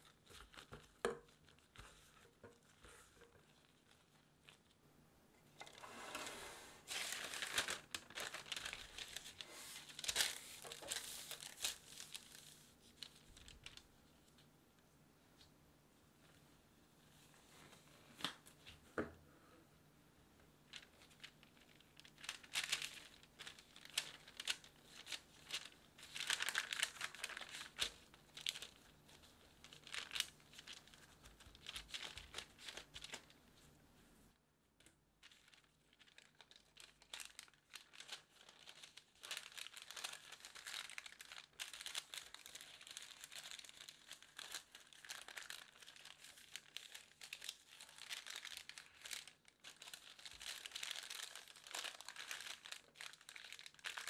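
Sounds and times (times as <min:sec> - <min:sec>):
parchment paper crinkling: 0:00.0 - 0:04.8, 0:05.4 - 0:14.5, 0:20.6 - 0:33.8, 0:34.8 - 0:54.0.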